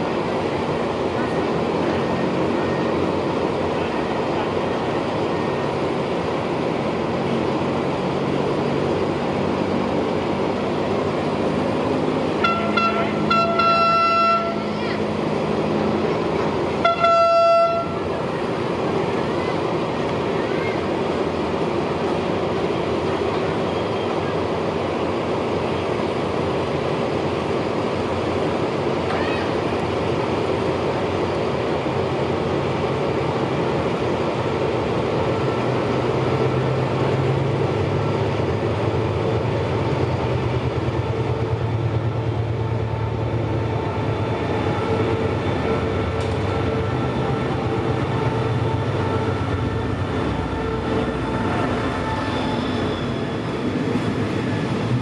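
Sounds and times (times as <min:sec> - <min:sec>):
low diesel engine drone: 0:00.0 - 0:55.0
train carriages rumbling on rails: 0:00.0 - 0:55.0.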